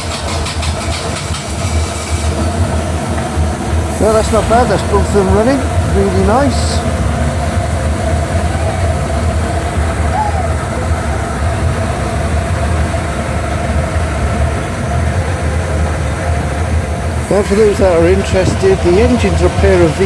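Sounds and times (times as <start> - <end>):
boat engines idling: 0.0 - 20.0.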